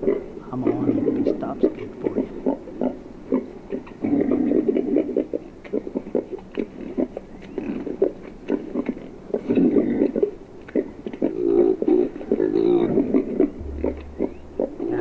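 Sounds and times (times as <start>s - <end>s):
boars grunting and growling: 0.0s - 15.0s.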